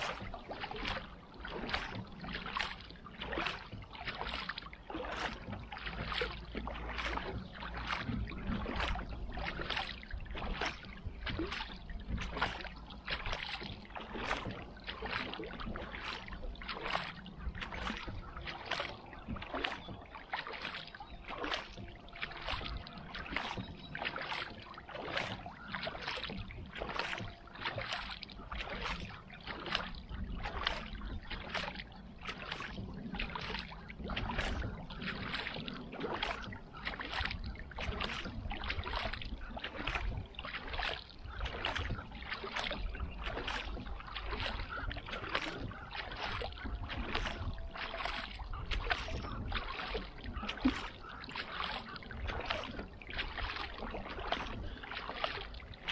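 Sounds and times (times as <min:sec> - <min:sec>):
paddle splashing in water: 0:00.0 - 0:55.9.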